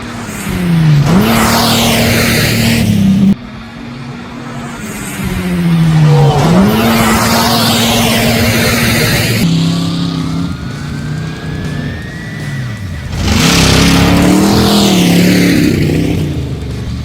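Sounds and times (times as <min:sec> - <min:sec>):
thin rising whine: 0:00.0 - 0:17.0
truck engine revving: 0:00.0 - 0:17.0
truck passing close: 0:00.0 - 0:17.0.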